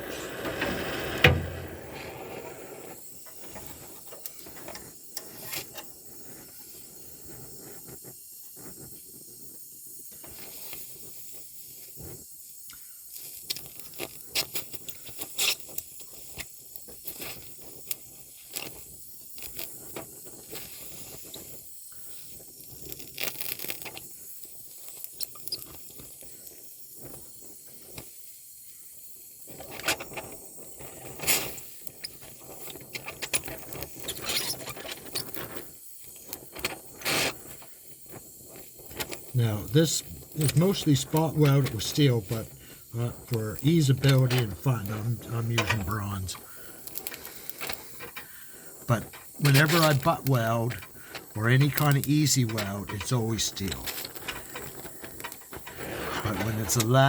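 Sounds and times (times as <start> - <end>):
welding arc hissing and crackling: 0.0 - 57.0.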